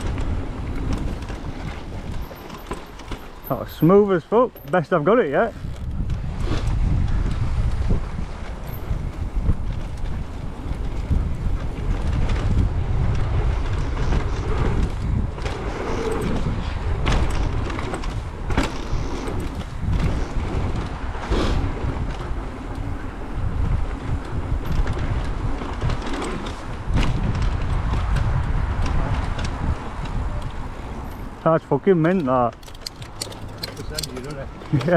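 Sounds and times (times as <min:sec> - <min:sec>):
tyres rolling over dirt: 0:00.0 - 0:06.8, 0:08.5 - 0:34.9
bike knocks and rattles: 0:00.0 - 0:21.2, 0:21.8 - 0:34.9
wind rushing over microphone: 0:00.0 - 0:34.9.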